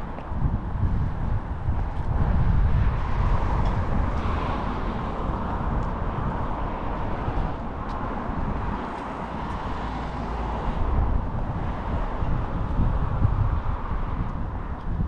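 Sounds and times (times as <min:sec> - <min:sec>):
traffic noise: 0:00.0 - 0:15.0
wind rumbling on microphone: 0:00.0 - 0:15.0.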